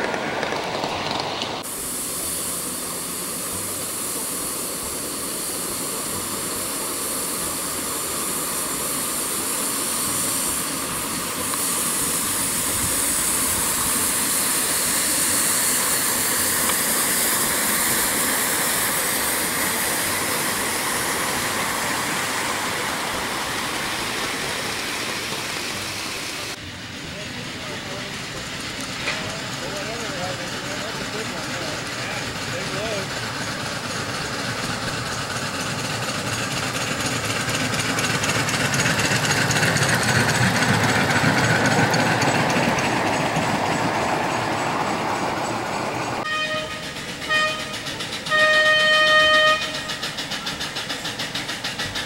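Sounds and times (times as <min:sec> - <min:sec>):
model locomotive hissing steam: 0:00.0 - 0:52.0.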